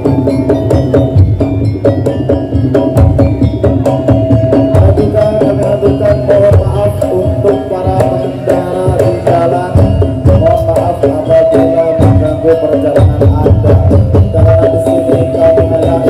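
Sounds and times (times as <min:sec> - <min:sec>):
percussion band playing: 0:00.0 - 0:16.0.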